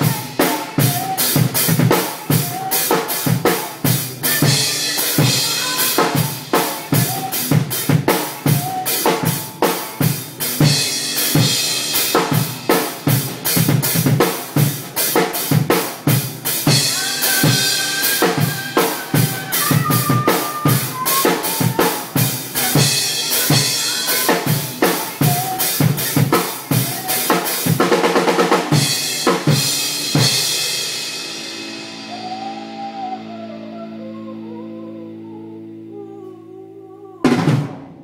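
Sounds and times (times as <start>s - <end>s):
drum kit pounding: 0.0s - 33.3s, 37.2s - 38.0s
rock band playing: 0.0s - 36.2s, 37.0s - 38.0s.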